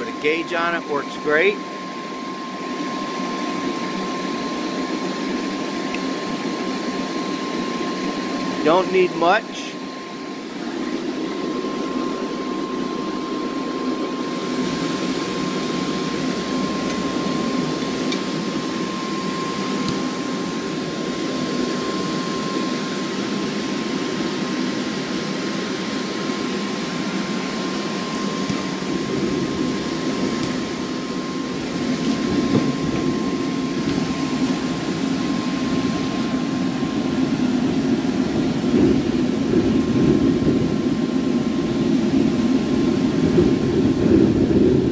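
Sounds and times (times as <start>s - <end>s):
gas hissing: 0.0s - 43.9s
blower whining: 0.0s - 44.9s.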